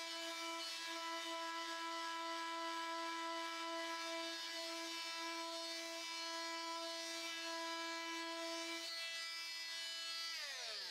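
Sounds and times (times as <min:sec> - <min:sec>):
oscillating tool buzzing: 0:00.0 - 0:10.9.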